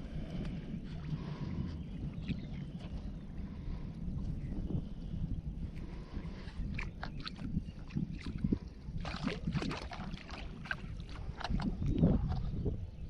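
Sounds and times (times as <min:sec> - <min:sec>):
water splashing around a boat: 0:00.0 - 0:12.9
wind rumble on microphone: 0:00.0 - 0:13.0.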